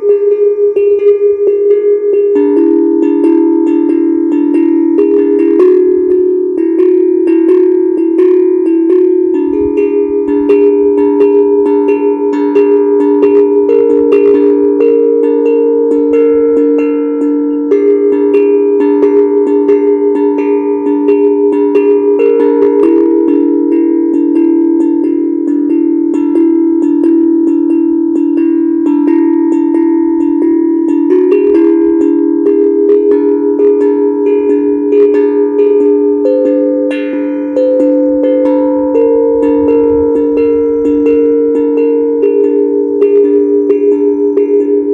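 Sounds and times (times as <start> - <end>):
steel tongue drum notes: 0.0 - 44.9.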